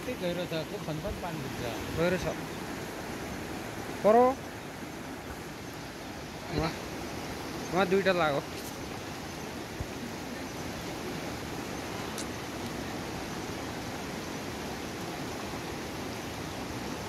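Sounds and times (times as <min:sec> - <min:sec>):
mountain stream over rocks: 0:00.0 - 0:17.0.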